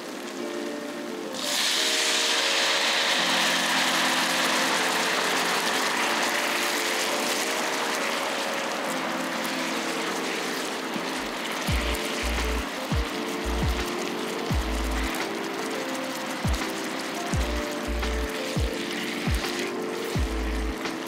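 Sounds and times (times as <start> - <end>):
steady sizzle: 0.0 - 21.0
wine hissing in hot pan: 0.0 - 21.0.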